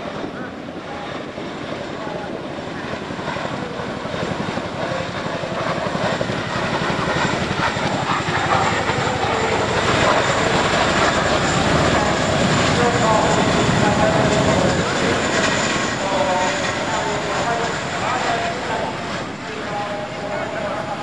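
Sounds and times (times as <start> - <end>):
helicopter rotor chop and turbine: 0.0 - 21.0.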